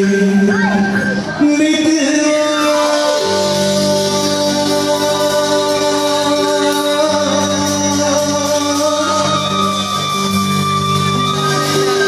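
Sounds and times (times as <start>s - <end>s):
song with singing: 0.0s - 12.0s.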